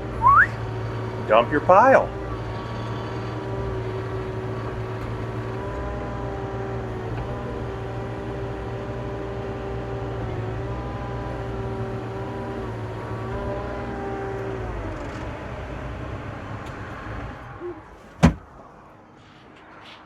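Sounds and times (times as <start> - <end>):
excavator engine and hydraulics whining: 0.0 - 20.0.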